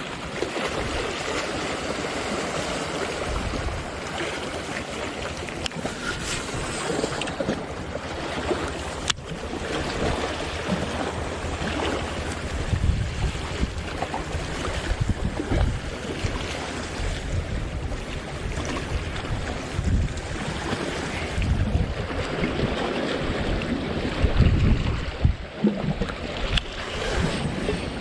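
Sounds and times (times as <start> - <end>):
waves washing against rocks: 0.0 - 28.0
wind buffeting microphone: 3.0 - 28.0.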